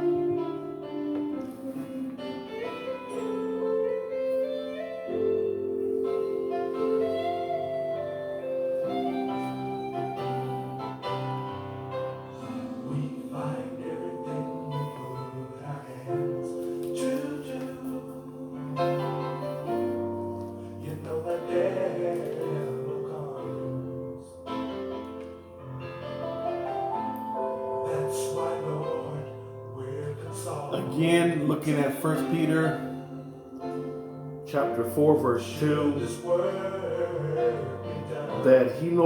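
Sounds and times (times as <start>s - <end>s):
slow keyboard chords: 0.0s - 39.0s.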